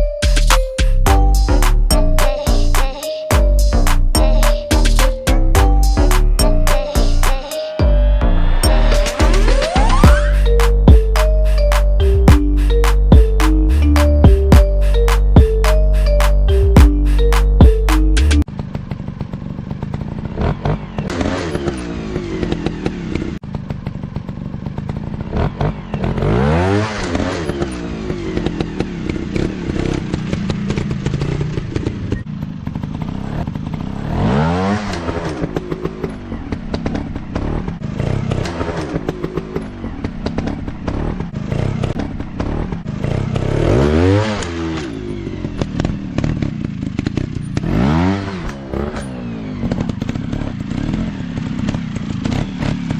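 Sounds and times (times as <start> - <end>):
dirt bike engine revving: 3.6 - 52.9.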